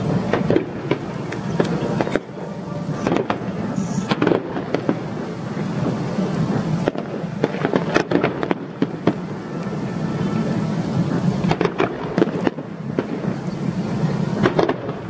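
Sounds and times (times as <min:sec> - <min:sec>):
fireworks exploding: 0:00.0 - 0:15.0.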